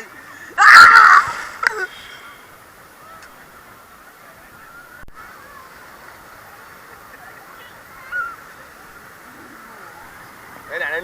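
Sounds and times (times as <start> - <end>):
distant people calling and shouting: 0.0 - 11.0.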